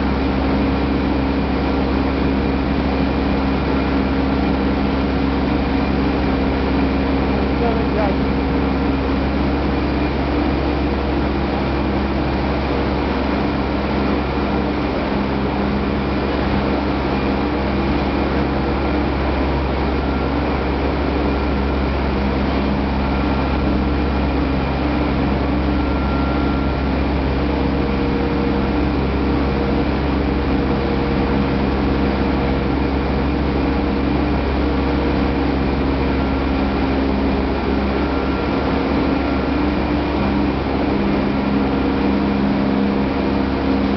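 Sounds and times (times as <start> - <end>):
industrial machinery drone: 0.0 - 43.9.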